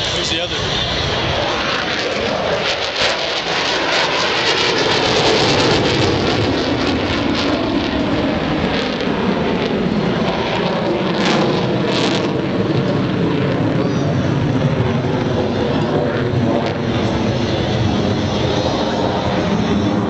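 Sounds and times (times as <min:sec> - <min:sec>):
jet fighter flying overhead: 0:00.0 - 0:20.0.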